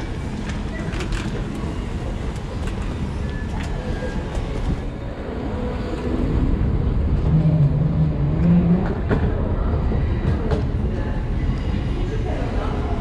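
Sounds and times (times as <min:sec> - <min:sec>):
train running on tracks: 0:00.0 - 0:13.0.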